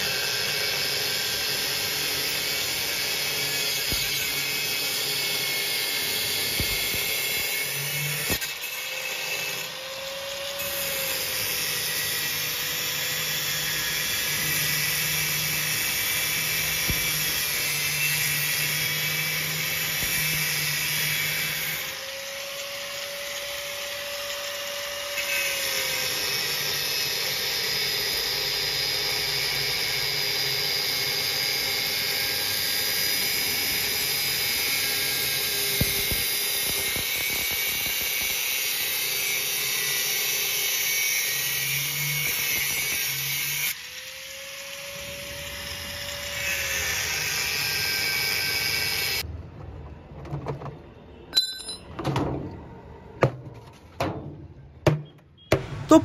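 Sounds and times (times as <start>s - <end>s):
angle grinder cutting metal: 0.0s - 49.3s.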